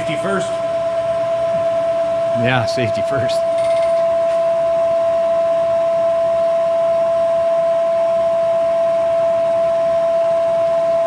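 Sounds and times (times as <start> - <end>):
milling machine whine: 0.0 - 11.0.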